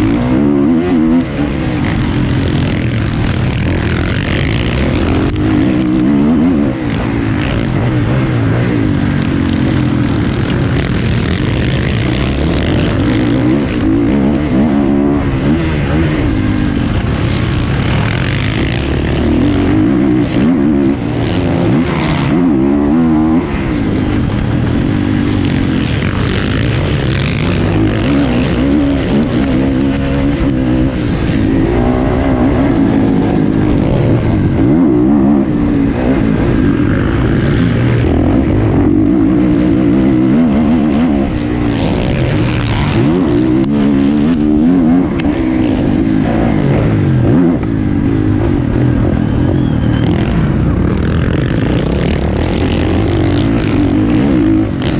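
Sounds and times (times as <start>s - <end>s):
motocross bike engines revving: 0.0s - 54.9s.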